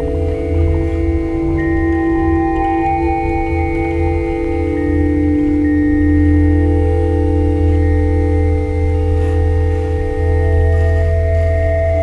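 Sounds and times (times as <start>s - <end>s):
electronic drone music: 0.0s - 12.0s
higher electronic tones: 0.0s - 12.0s
low hum: 0.0s - 12.0s.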